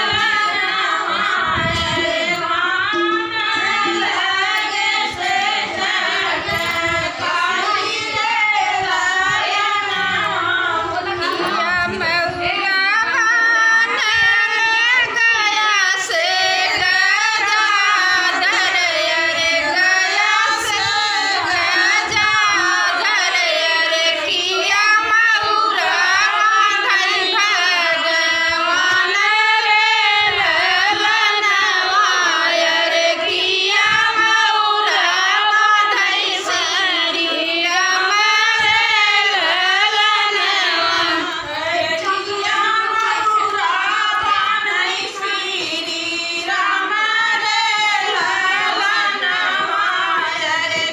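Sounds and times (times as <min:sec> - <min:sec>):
women singing folk song: 0:00.0 - 0:50.9.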